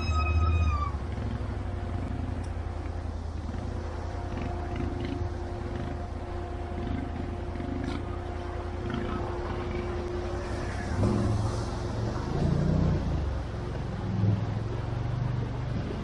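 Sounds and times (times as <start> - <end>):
atv engine: 0.0 - 16.0
steady whine: 0.0 - 16.0.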